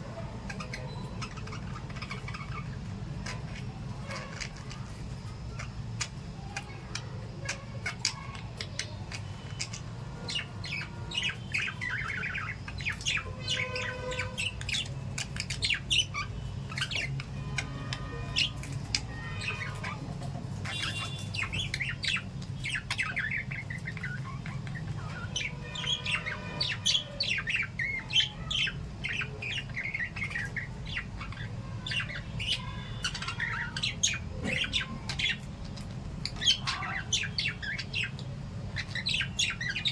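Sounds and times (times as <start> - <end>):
parrots chirping and squawking: 0.0 - 39.9.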